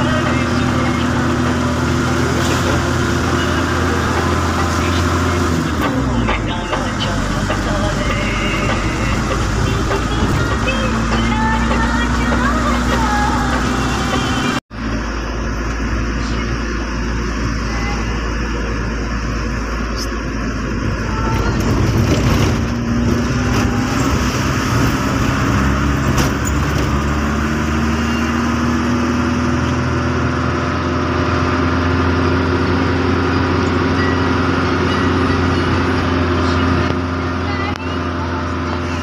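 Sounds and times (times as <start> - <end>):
car engine: 0.0 - 39.0
road noise: 0.0 - 39.0.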